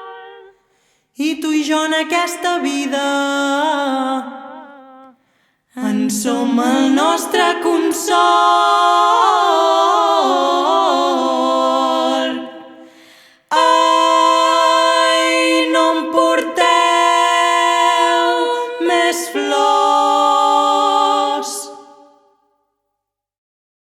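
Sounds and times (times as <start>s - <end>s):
voices singing held chords: 0.0s - 5.2s, 5.8s - 22.3s.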